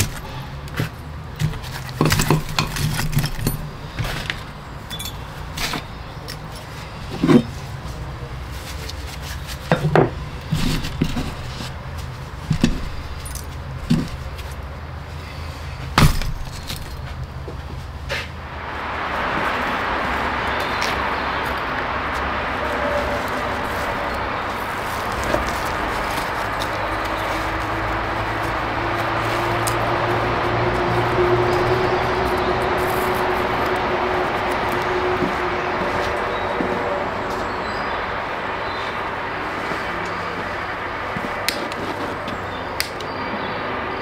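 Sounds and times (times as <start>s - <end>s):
steady rushing noise: 3.5s - 44.0s.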